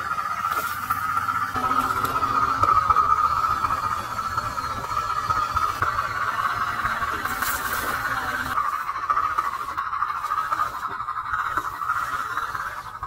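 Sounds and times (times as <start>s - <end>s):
simulated diesel engine drone: 0.0s - 13.0s.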